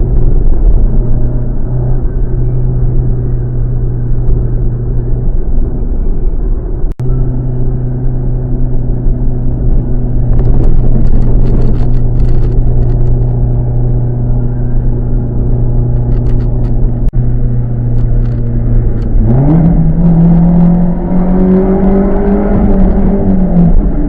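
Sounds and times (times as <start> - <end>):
car exhaust drone: 0.0 - 24.0.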